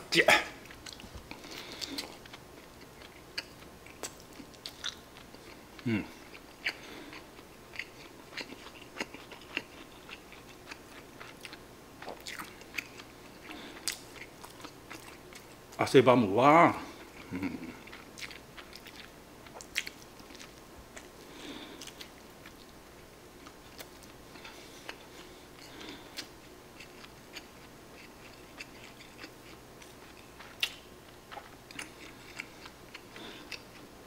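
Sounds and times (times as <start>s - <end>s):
person chewing with wet mouth noises: 0.6s - 15.6s, 16.9s - 34.0s.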